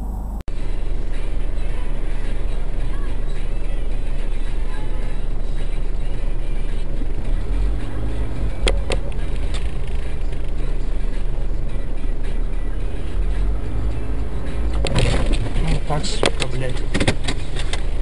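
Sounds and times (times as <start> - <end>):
car engine rumble: 0.0 - 18.0
road noise: 0.0 - 18.0.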